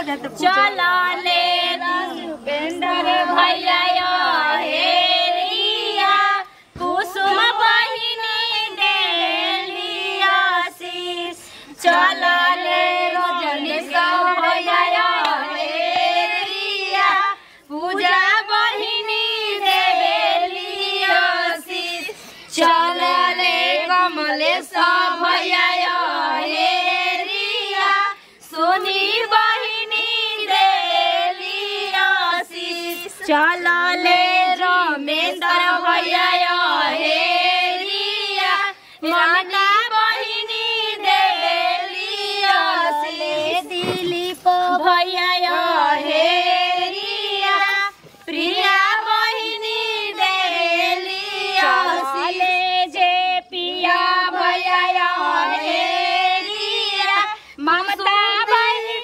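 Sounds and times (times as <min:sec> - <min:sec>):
women singing folk song: 0:00.0 - 0:59.0.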